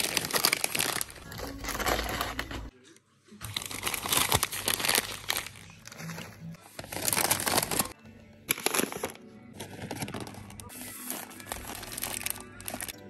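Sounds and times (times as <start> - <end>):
plastic packaging crinkling: 0.0 - 2.7, 3.4 - 13.0.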